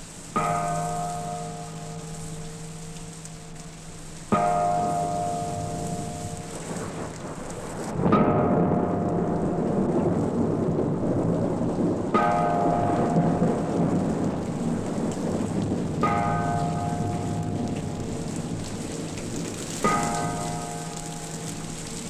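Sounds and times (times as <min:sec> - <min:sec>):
steady rain: 0:00.0 - 0:22.0
thunder rumble: 0:03.4 - 0:22.0.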